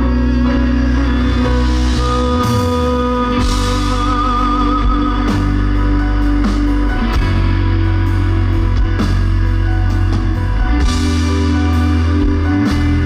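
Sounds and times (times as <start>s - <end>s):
steady bass: 0.0s - 13.0s
sustained guitar notes: 0.0s - 13.0s.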